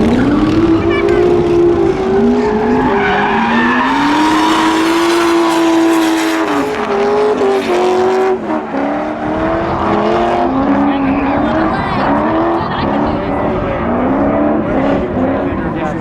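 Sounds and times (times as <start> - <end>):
tyres squealing and skidding: 0.0 - 13.2
car engine revving hard: 0.0 - 16.0.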